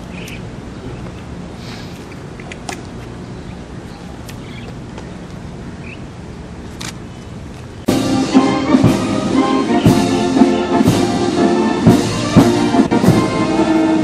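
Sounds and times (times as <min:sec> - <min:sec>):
low street rumble: 0:00.0 - 0:14.0.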